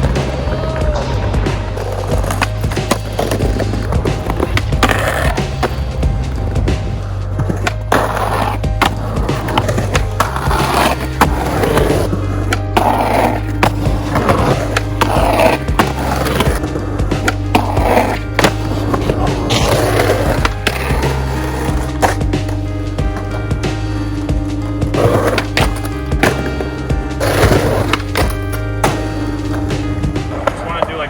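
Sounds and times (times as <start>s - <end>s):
background music with bass: 0.0s - 31.0s
skateboard clacks: 0.0s - 31.0s
skateboard wheels rolling: 0.0s - 31.0s.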